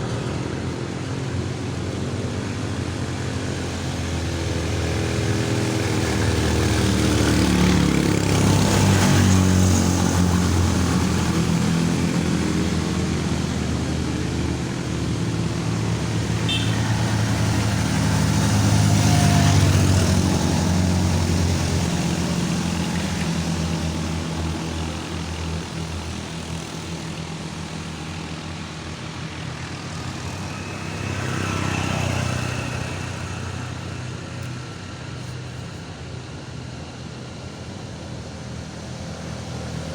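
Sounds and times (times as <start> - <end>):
vehicle engines climbing uphill: 0.0 - 39.9.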